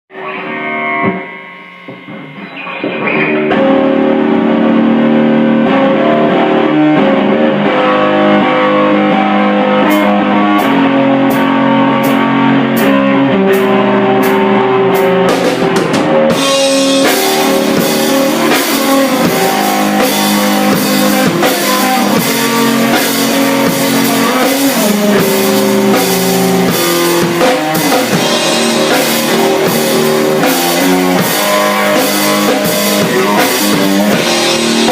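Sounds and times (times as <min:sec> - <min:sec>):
drum kit: 0:00.1 - 0:34.9
rock guitar: 0:00.1 - 0:34.9.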